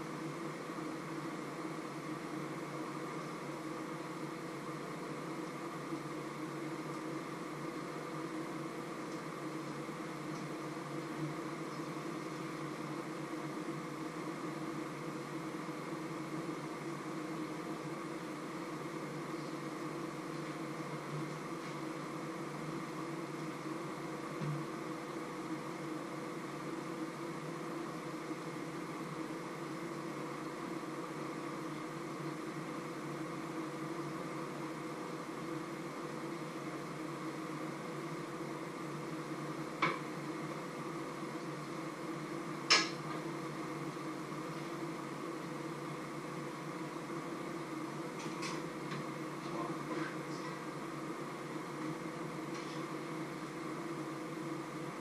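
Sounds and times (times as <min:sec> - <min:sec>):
machine hum with hiss: 0:00.0 - 0:55.0.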